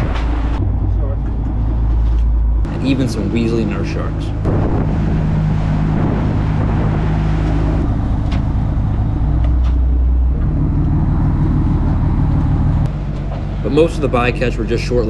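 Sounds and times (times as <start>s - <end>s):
boat engine humming: 0.0s - 15.0s
churning wake water: 0.0s - 15.0s.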